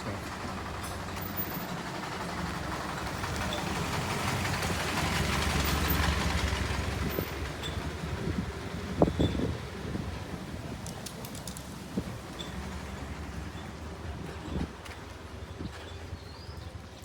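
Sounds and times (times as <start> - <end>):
vehicle passing by: 0.0 - 15.9.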